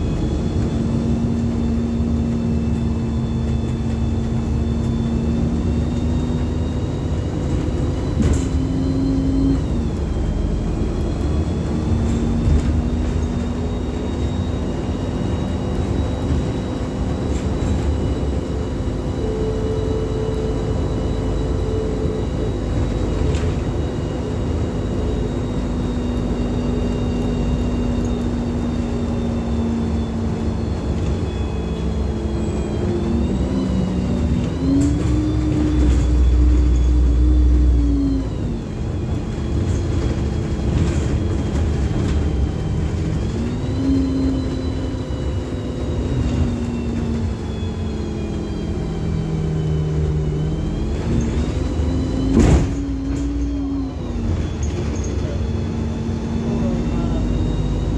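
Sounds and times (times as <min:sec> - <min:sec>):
bus interior rumble: 0:00.0 - 0:57.9
whine shifting in pitch: 0:00.0 - 0:57.9.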